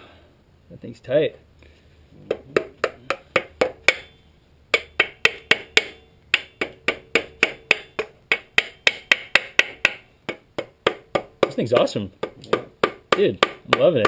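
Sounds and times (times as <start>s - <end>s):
rubber mallet striking tool: 2.3s - 14.0s.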